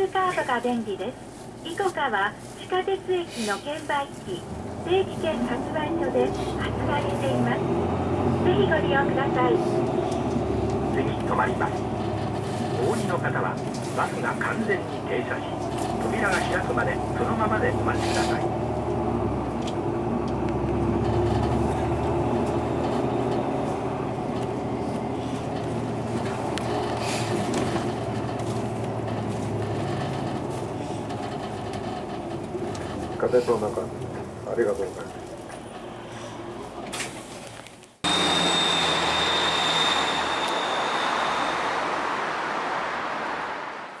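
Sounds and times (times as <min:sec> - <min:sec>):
bus diesel engine running: 0:00.0 - 0:44.0
road and tyre noise: 0:00.0 - 0:44.0.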